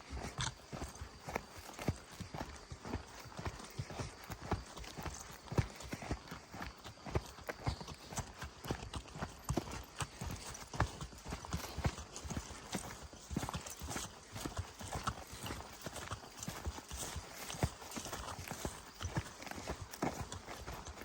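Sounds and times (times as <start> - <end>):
footsteps on forest track: 0.0 - 21.0.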